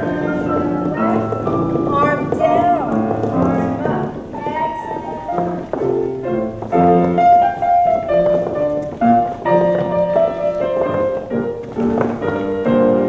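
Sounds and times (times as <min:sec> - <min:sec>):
grand piano playing chords: 0:00.0 - 0:13.0.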